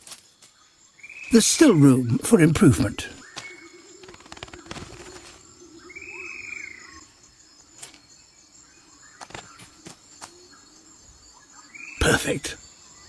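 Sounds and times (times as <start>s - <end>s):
insect hum: 0.0s - 13.0s.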